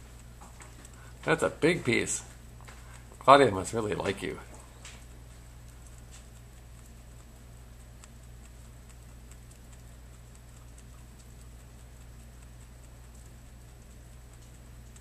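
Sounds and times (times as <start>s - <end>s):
rabbit chewing wood: 0.0s - 15.0s
steady low hum: 0.0s - 15.0s.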